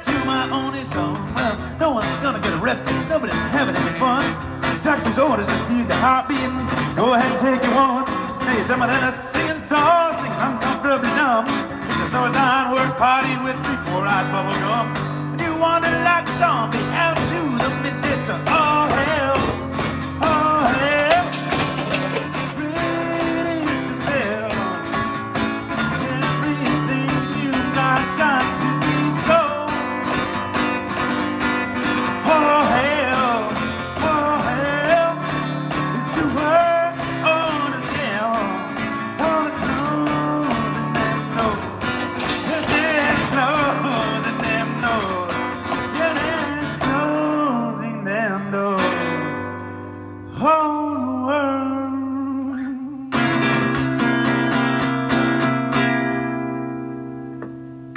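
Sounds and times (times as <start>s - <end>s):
acoustic guitar strumming: 0.0s - 51.9s, 53.1s - 57.9s.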